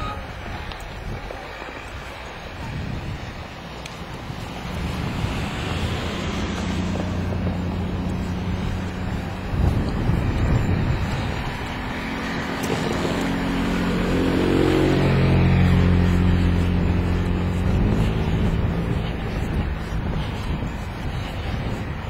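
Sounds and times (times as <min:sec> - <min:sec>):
wind buffeting microphone: 0:00.0 - 0:22.0
vehicle engine passing by: 0:03.8 - 0:22.0.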